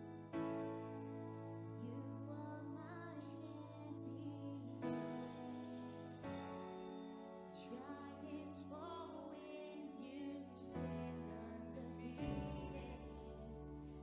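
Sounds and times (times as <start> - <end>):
worship band playing slow music: 0.0 - 14.0.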